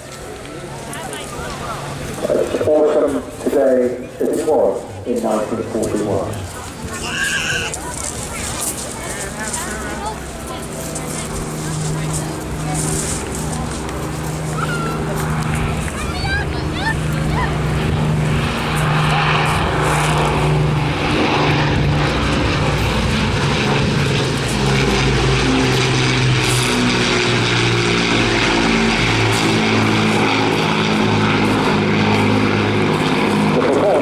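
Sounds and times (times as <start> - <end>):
propeller plane engines droning: 0.0 - 34.0.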